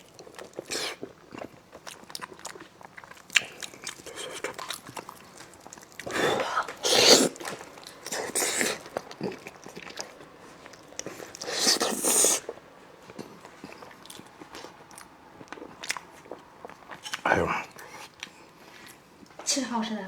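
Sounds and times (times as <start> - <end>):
wet chewing and biting: 0.0 - 19.0.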